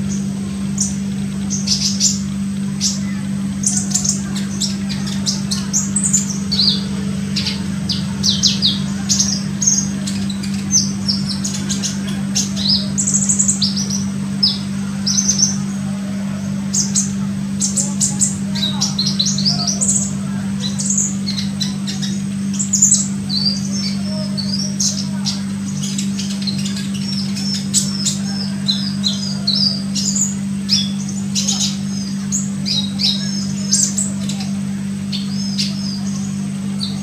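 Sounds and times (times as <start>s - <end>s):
bird chirping and twittering: 0.0s - 37.0s
steady low hum: 0.0s - 37.0s.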